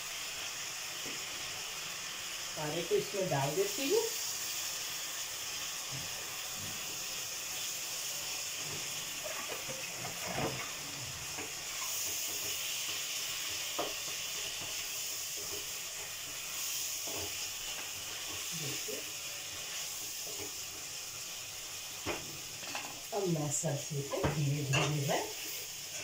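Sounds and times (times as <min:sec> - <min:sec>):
greens sizzling in a wok: 0:00.0 - 0:26.0.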